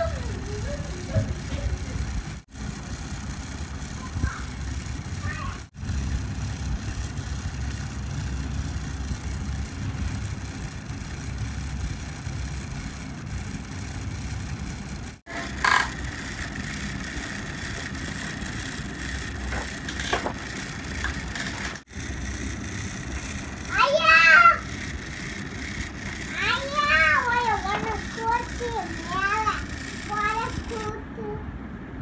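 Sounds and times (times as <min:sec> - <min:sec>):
small electric grinder motor humming: 0:00.0 - 0:31.0
faint steady whine: 0:00.0 - 0:32.0.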